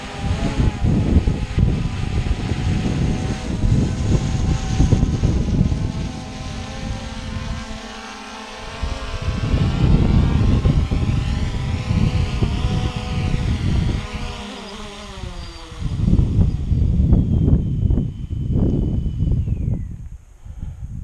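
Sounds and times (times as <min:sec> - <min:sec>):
quadcopter propellers whirring: 0:00.0 - 0:21.0
wind rumbling on microphone: 0:00.0 - 0:21.0.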